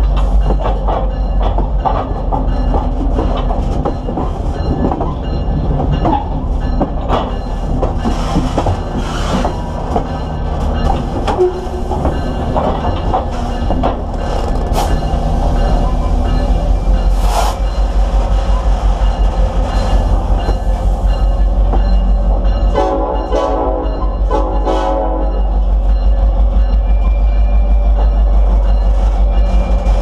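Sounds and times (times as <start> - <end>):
railcar wheels rumbling on rail: 0.0 - 30.0.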